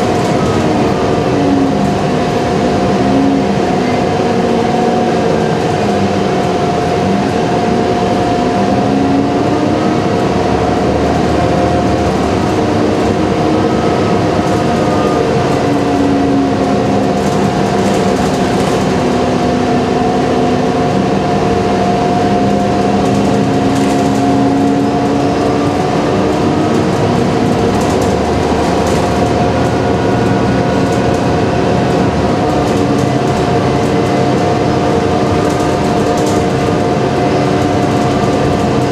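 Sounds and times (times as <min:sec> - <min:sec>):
bus engine drone: 0:00.0 - 0:38.9
road noise: 0:00.0 - 0:38.9.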